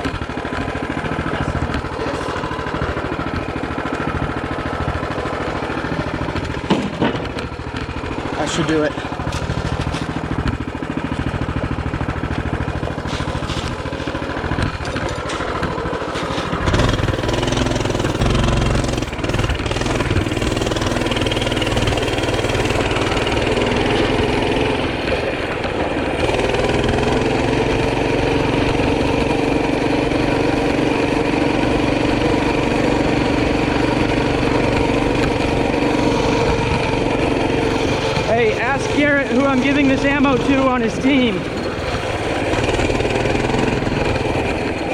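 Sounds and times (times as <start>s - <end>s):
small vehicle engine running: 0.0s - 44.9s.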